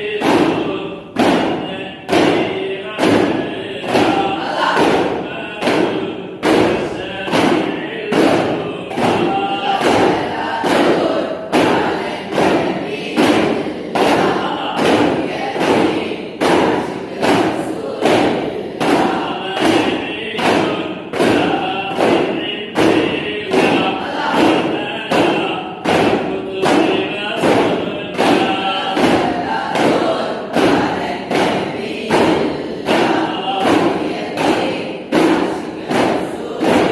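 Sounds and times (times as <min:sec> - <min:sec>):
frame drums beating: 0:00.0 - 0:36.9
voices chanting in unison: 0:00.0 - 0:36.9.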